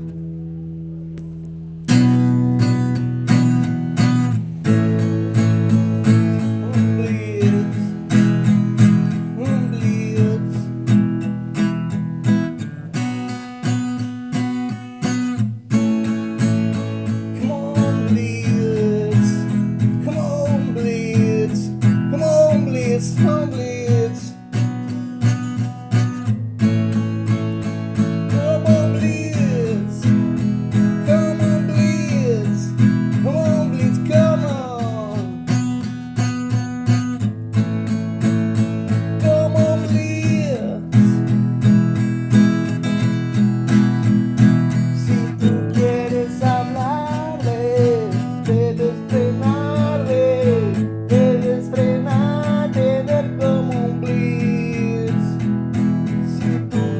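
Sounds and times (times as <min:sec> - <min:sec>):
sliding guitar lead melody: 0:00.0 - 0:56.9
strummed acoustic guitar chords: 0:00.0 - 0:56.9.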